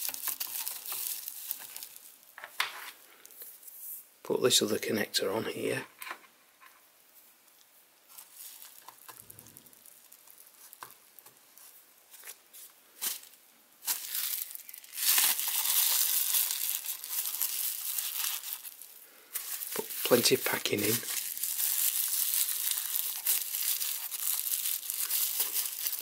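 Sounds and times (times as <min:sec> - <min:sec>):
bubble wrap crinkling: 0:00.0 - 0:02.6, 0:07.1 - 0:26.0.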